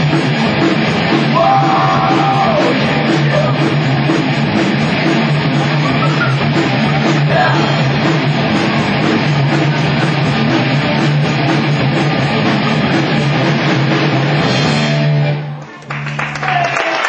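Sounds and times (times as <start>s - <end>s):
electric guitars: 0.0s - 16.3s
drum kit: 0.0s - 16.8s.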